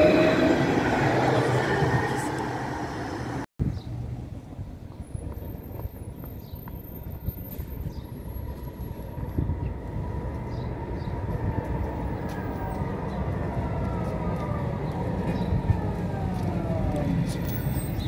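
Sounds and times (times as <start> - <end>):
tram rumbling with whine: 0.0 - 18.0.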